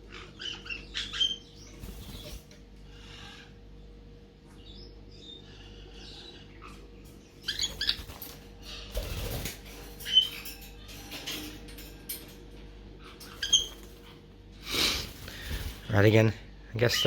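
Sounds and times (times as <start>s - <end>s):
parrot chicks squeaking: 0.0s - 3.9s, 4.7s - 11.6s, 13.0s - 16.2s.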